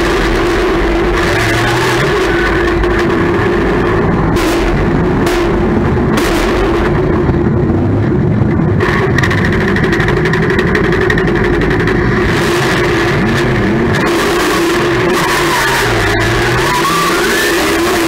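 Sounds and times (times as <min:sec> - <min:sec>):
race car engine revving: 0:00.0 - 0:18.0
rock music: 0:00.0 - 0:18.0.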